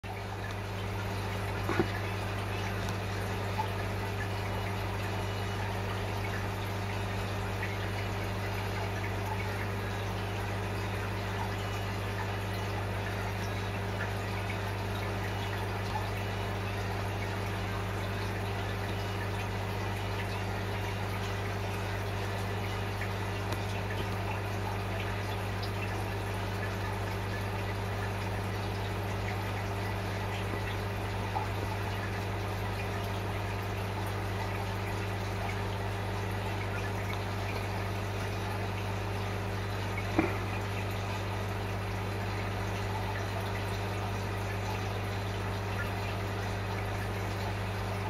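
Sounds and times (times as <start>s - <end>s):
aquarium pump humming: 0.0s - 48.0s
water trickling: 0.0s - 48.0s.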